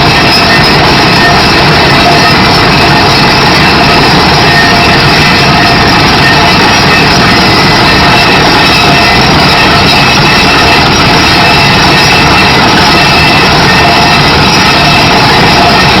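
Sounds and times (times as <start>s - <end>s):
well drilling rig running: 0.0s - 16.0s.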